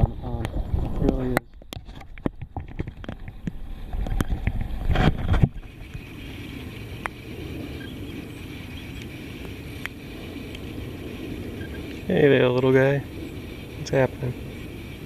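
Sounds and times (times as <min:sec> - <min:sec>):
wind and water hiss: 0:00.0 - 0:15.0.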